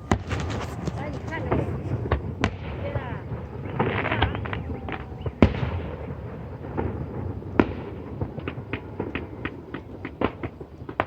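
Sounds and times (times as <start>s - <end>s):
crackling pops: 0.0s - 11.0s
fireworks bursting: 0.0s - 11.0s.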